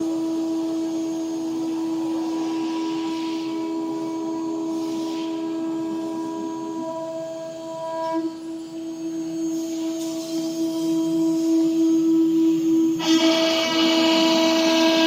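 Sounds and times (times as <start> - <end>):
hiss: 0.0 - 15.0
router spindle high whine: 0.0 - 15.0.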